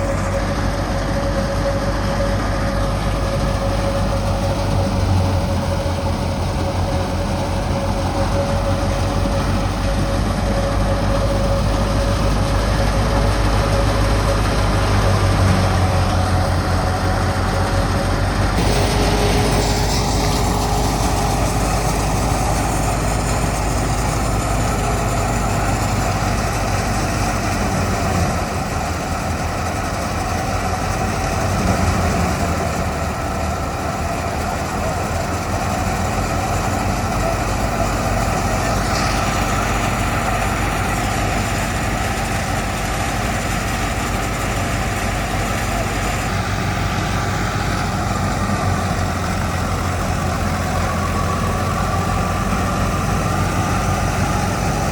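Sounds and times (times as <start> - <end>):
heavy harvester engine running: 0.0 - 54.9.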